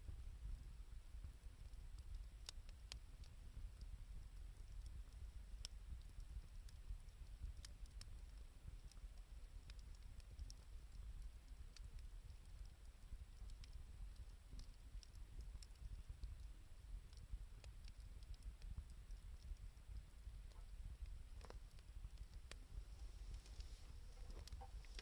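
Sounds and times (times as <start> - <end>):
faint wood fire crackling: 0.0 - 25.0.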